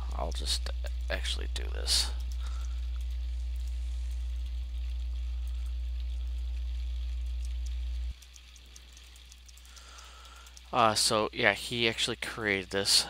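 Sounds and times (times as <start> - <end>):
low electrical hum with buzz: 0.0 - 13.0.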